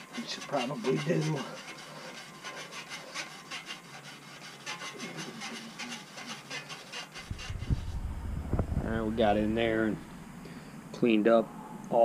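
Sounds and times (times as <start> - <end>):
brush scrubbing inside metal passage: 0.0 - 10.1.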